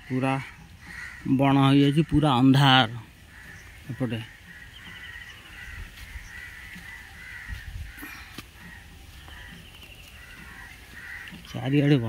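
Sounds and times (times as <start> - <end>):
fast rattling bird trill: 0.0 - 7.8, 8.7 - 12.0
short harsh bird calls: 2.3 - 12.0.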